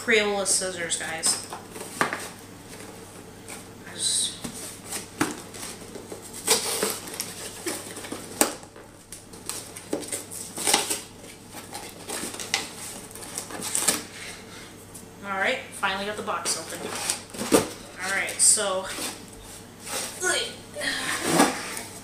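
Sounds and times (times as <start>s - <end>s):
cardboard and tape rustling: 0.9s - 3.7s, 4.3s - 15.0s, 16.4s - 20.4s, 21.0s - 22.0s.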